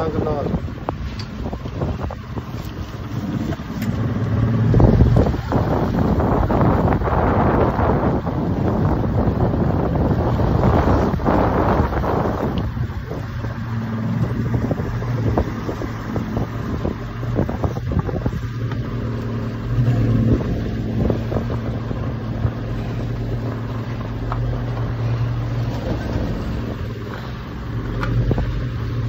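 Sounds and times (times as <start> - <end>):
boat engine humming: 0.0 - 29.0
water noise: 0.0 - 29.0
wind: 0.0 - 29.0.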